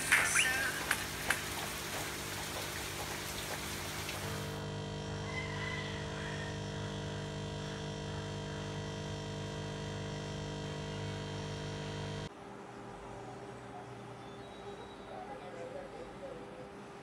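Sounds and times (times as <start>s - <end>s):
electrical motor buzzing hum: 0.0s - 14.2s.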